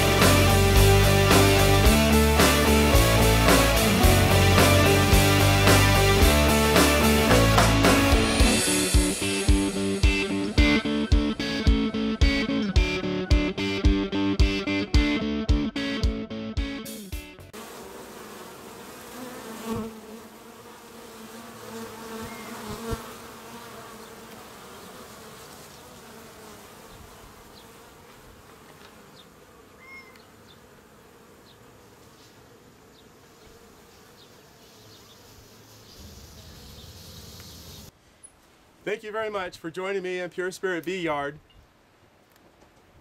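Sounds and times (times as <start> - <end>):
honeybees buzzing: 0.0 - 14.7, 17.5 - 37.9.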